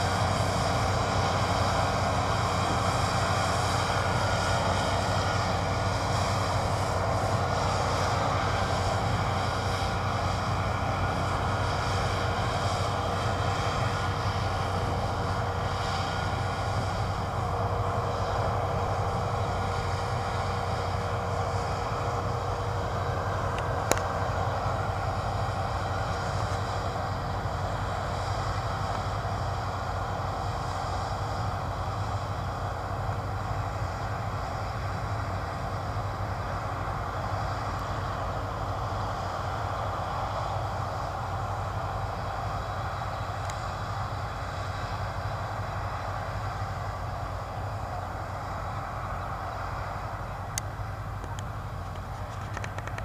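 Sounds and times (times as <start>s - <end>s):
combine harvester droning: 0.0s - 53.0s.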